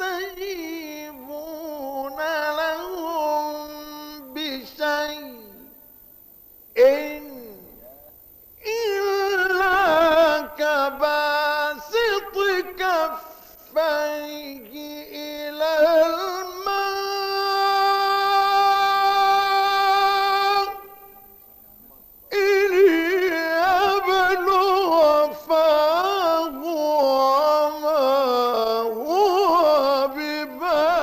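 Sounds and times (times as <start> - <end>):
man reciting melodically: 0.0 - 31.0.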